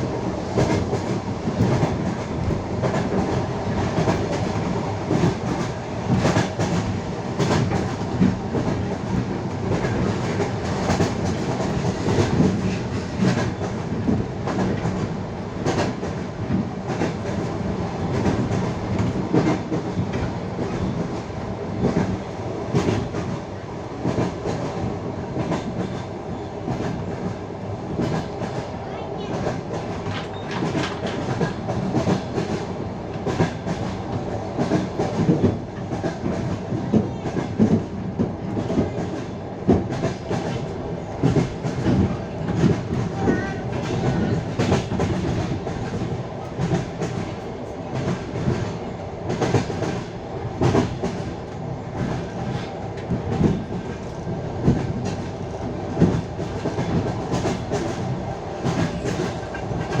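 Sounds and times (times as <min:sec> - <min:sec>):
train wheels clattering over rails: 0:00.0 - 1:00.0.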